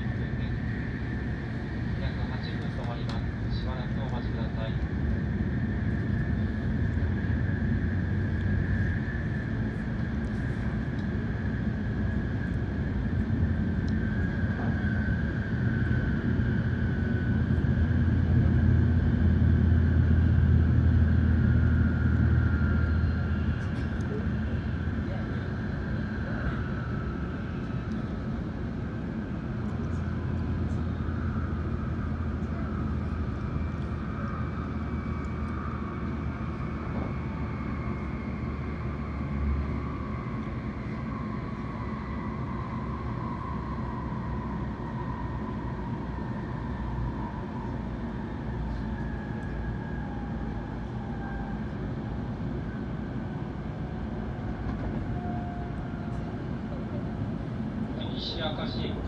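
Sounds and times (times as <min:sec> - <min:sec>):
faint falling whine: 0:00.0 - 0:59.0.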